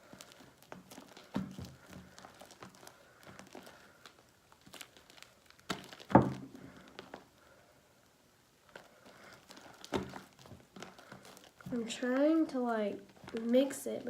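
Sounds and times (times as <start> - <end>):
slime squelching by hand: 0.0 - 7.6, 8.6 - 14.0.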